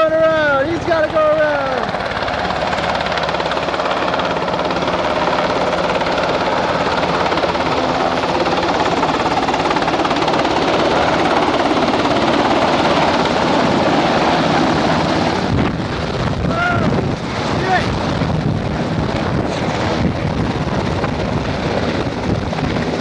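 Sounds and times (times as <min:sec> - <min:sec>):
helicopter rotor and engines: 0:00.0 - 0:23.0.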